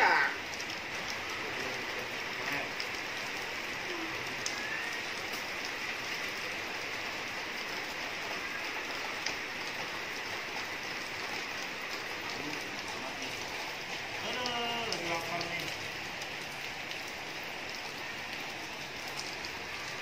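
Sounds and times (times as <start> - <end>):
rain on wet pavement: 0.0 - 20.0
raindrop ticks: 0.1 - 20.0.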